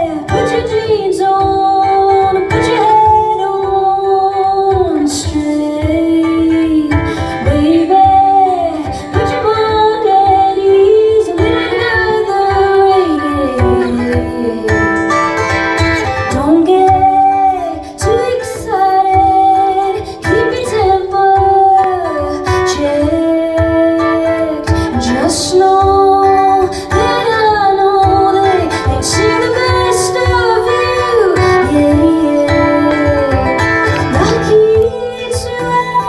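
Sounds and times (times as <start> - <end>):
strummed acoustic guitar: 0.0 - 36.0
woman singing: 0.0 - 36.0.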